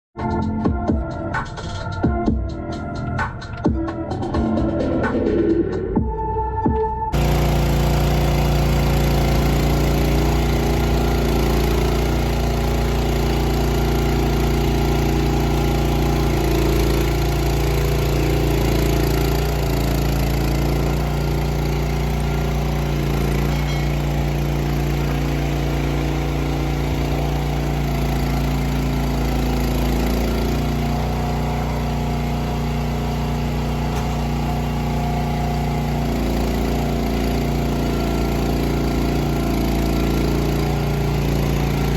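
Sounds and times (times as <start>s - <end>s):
tractor engine running: 7.1s - 41.9s.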